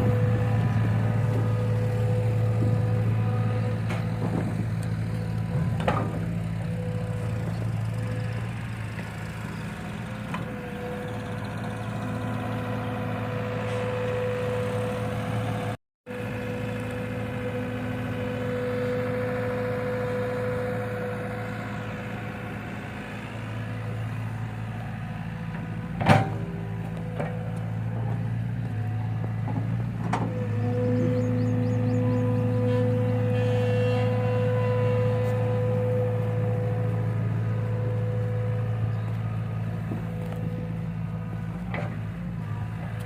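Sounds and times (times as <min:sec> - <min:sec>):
diesel tractor engine running: 0:00.0 - 0:43.0.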